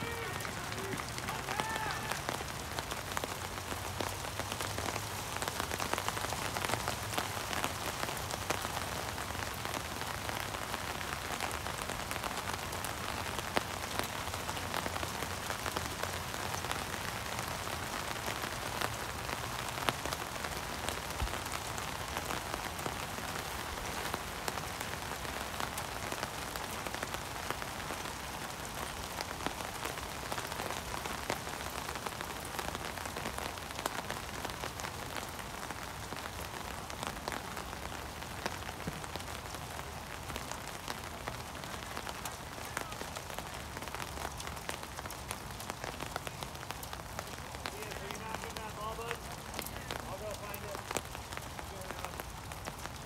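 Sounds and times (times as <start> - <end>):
raindrops ticking close: 0.0 - 53.0
steady rain falling: 0.0 - 53.0.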